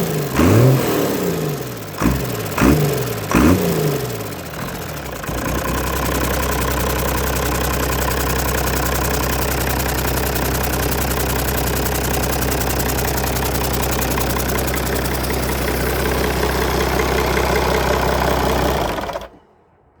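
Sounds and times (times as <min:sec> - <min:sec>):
diesel engine running: 0:00.0 - 0:19.4.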